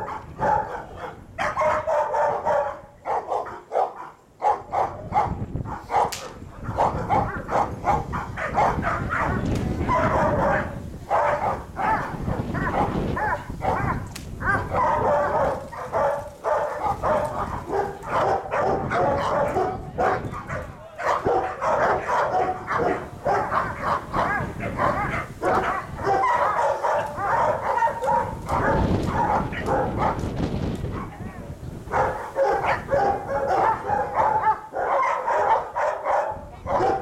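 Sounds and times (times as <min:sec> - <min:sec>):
dogs barking aggressively: 0:00.0 - 0:37.0.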